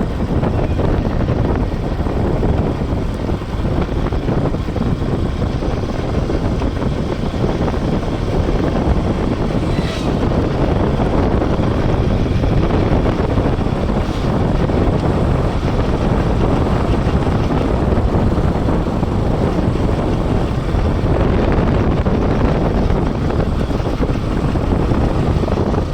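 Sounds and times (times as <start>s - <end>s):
motorcycle engine running: 0.0s - 25.9s
wind rush on microphone: 0.0s - 25.9s.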